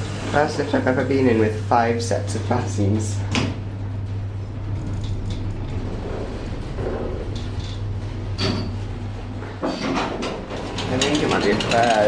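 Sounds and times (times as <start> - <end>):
lift car low hum: 0.0 - 12.0.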